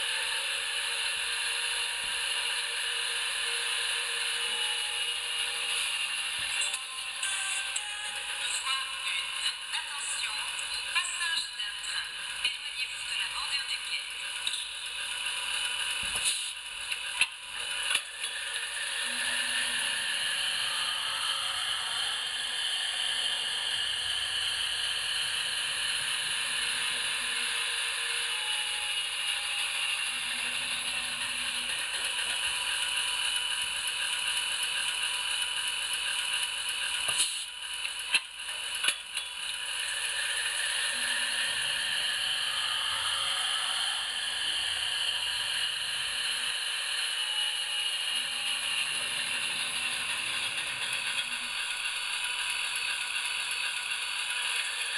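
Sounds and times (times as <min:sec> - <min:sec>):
diesel engine sound from small speaker: 0:00.0 - 0:54.9
model train motor whir: 0:00.0 - 0:54.9.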